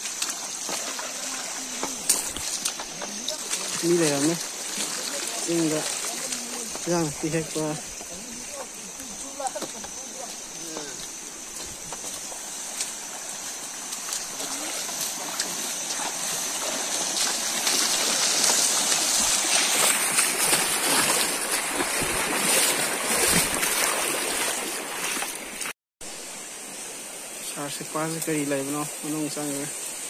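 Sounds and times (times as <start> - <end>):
feet splashing through water: 0.0 - 25.8
stream rushing: 0.0 - 30.0.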